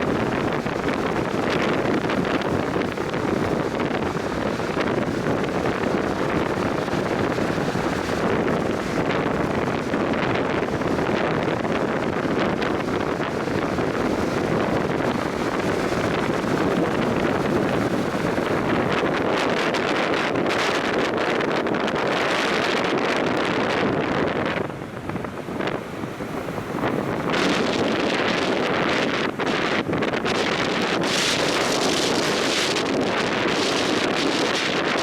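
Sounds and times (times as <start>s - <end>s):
big waves breaking on beach: 0.0s - 35.0s
wind buffeting microphone: 0.0s - 35.0s.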